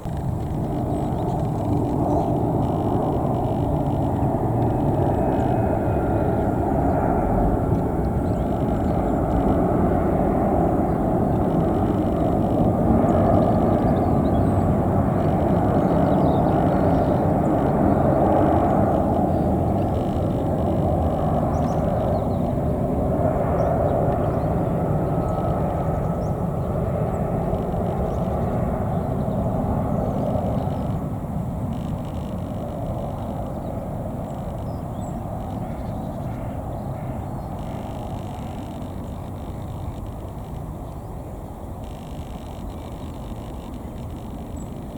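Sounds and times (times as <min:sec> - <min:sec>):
jet engine noise: 0:00.0 - 0:44.9.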